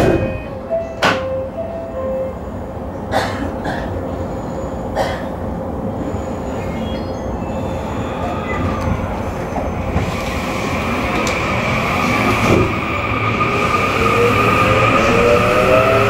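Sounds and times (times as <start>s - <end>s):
train wheels rumbling on rails: 2.7s - 16.0s.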